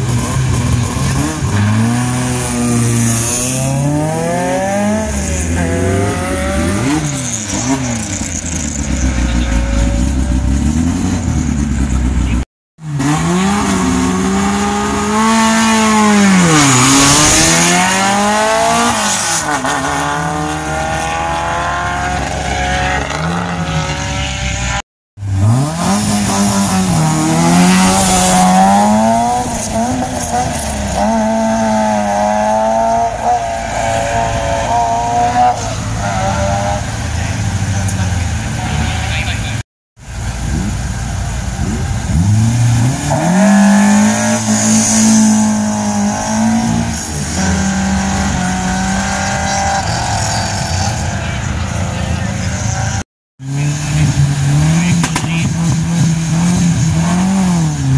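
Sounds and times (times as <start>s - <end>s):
race car engines revving: 0.0s - 57.9s.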